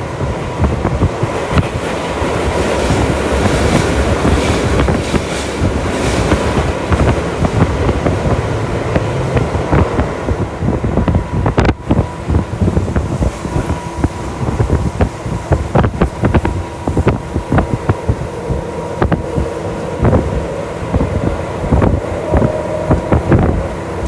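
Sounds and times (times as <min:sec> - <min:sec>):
train wheels rumbling on rail: 0:00.0 - 0:24.0
track clicks and knocks: 0:00.1 - 0:24.0.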